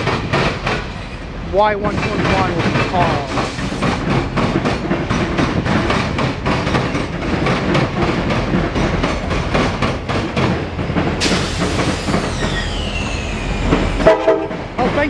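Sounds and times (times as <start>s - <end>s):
freight cars rumbling: 0.0s - 15.0s
train wheels clacking over rail joints: 0.0s - 15.0s.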